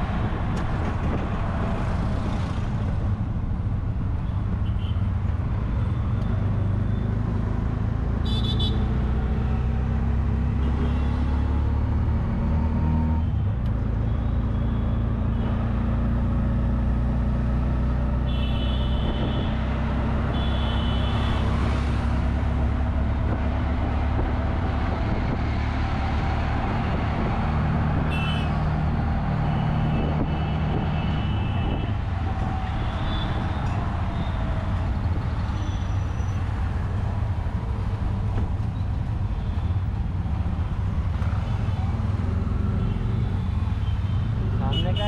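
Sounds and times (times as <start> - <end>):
road noise: 0.0 - 45.0.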